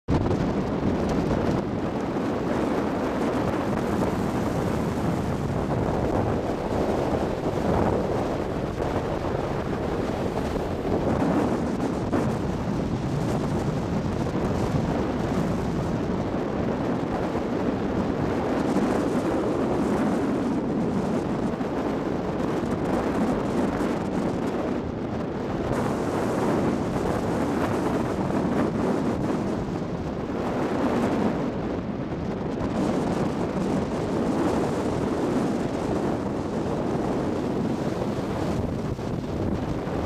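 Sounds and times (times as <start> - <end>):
wind on microphone: 0.0 - 40.0
boat engine: 0.1 - 40.0
water noise: 0.1 - 40.0.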